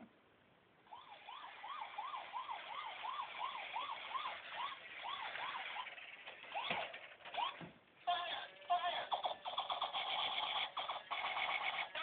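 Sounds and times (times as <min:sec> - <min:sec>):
toy police siren yelping: 0:00.9 - 0:12.0.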